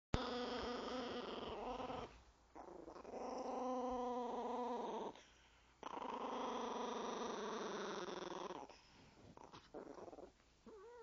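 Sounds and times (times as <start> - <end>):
small dog growling: 0.2 - 11.0.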